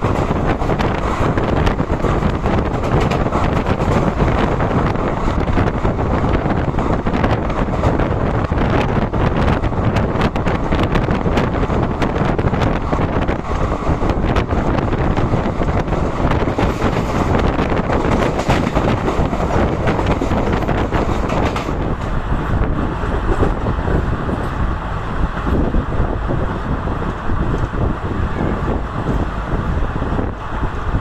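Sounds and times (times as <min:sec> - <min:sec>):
train rumbling and rattling: 0:00.0 - 0:31.0
wind buffeting microphone: 0:00.0 - 0:31.0.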